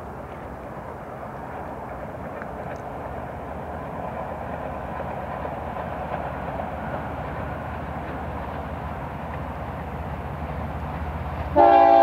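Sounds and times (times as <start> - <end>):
diesel locomotive engines rumbling: 0.0 - 12.0
train wheels rolling: 0.0 - 12.0.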